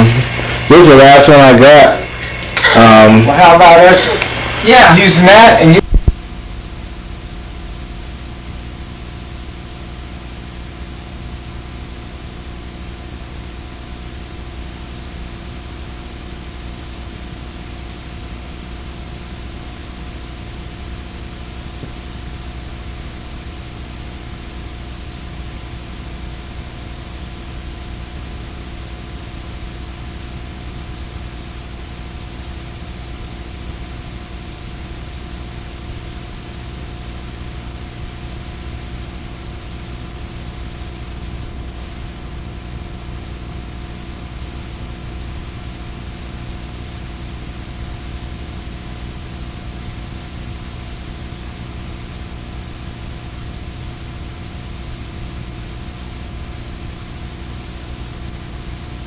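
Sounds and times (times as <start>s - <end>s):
recording hiss: 0.0s - 59.0s.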